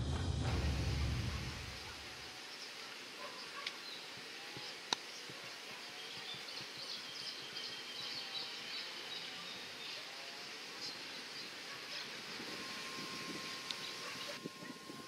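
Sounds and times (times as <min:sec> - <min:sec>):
thin steady high tone: 0:00.5 - 0:15.0
faint bird chirps: 0:01.7 - 0:14.9.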